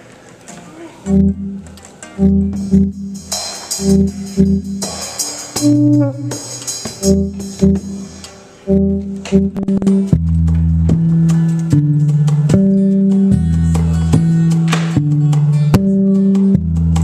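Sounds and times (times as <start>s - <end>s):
low bass notes: 1.1s - 17.0s.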